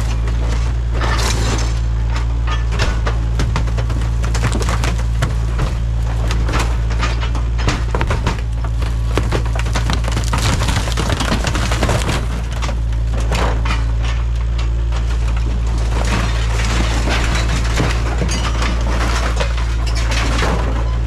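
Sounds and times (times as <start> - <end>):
excavator diesel engine running: 0.0 - 21.0
metal crunching and splintering: 0.0 - 21.0.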